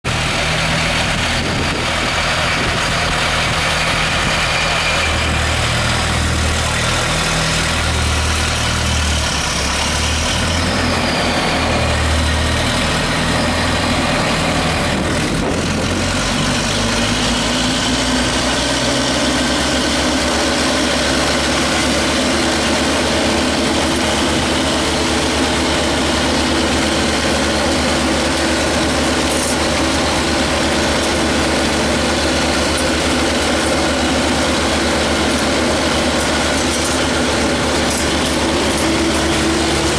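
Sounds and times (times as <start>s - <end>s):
vacuum loader engine and blower drone: 0.0s - 39.9s.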